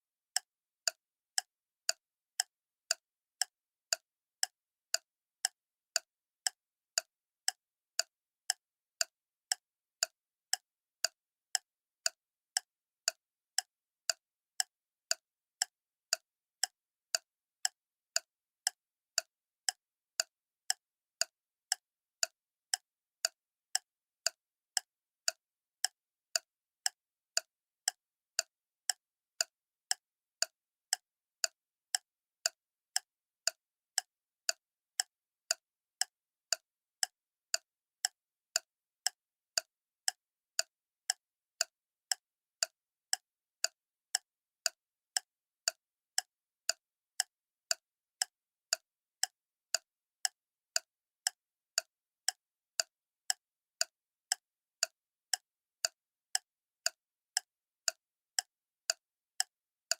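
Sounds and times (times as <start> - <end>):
clock ticking: 0.4 - 59.9.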